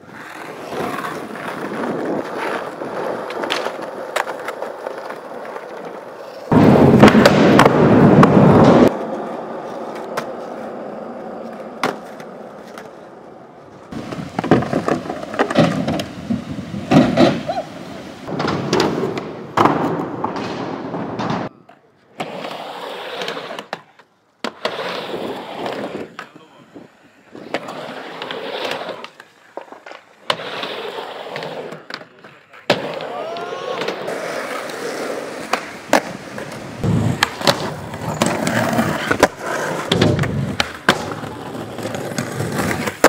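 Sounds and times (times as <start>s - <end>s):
skateboard clacks: 0.0s - 22.4s, 27.3s - 43.0s
skateboard wheels rolling on concrete: 0.0s - 43.0s.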